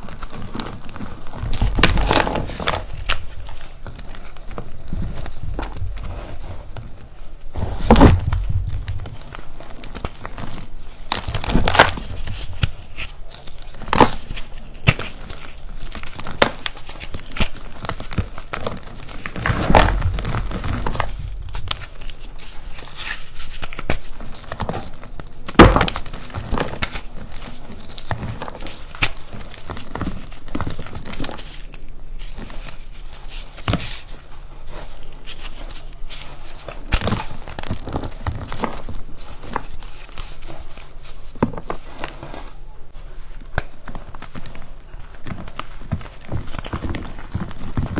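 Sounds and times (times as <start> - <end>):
crumbs pattering: 0.0 - 47.9.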